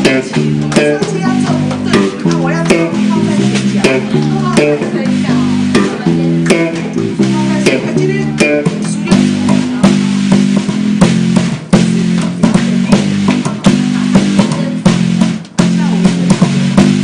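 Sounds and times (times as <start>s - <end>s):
bass guitar notes: 0.0s - 17.0s
steady drum beat: 0.0s - 17.0s.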